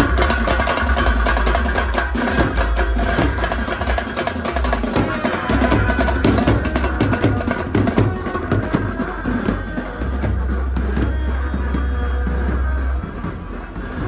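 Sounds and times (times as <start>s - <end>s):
brass band playing: 0.0s - 14.0s
rapid drumbeats: 0.0s - 14.0s.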